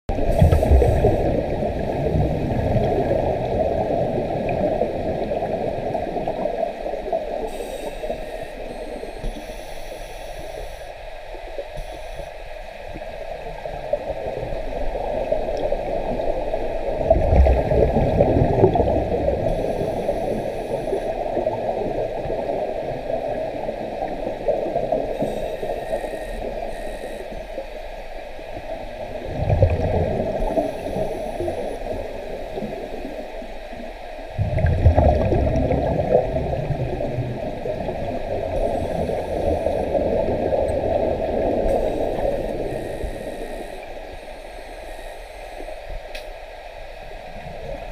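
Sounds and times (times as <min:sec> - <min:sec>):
underwater regulator bubbles: 0:00.1 - 0:09.4, 0:13.6 - 0:27.5, 0:29.0 - 0:33.2, 0:34.4 - 0:46.3.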